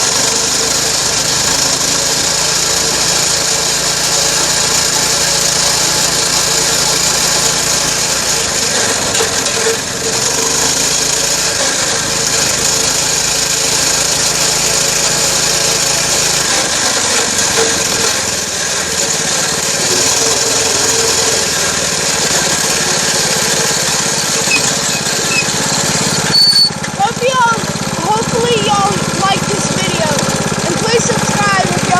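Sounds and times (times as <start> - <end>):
dirt bike engine running: 0.0 - 31.9.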